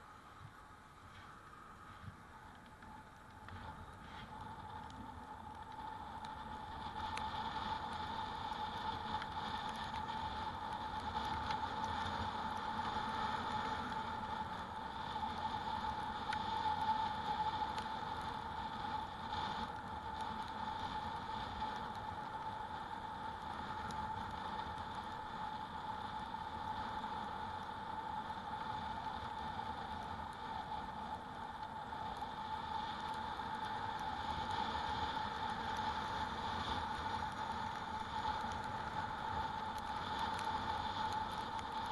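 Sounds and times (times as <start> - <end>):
e-bike motor whine: 0.0 - 41.9
wind noise: 0.0 - 41.9.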